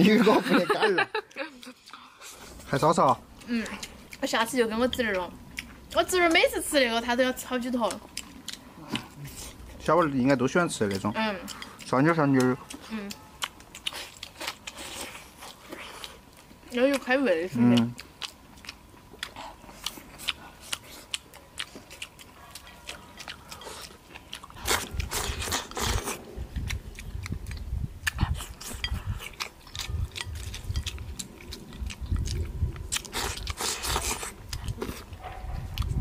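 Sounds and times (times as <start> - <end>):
person chewing: 1.3 - 6.6, 7.4 - 36.0.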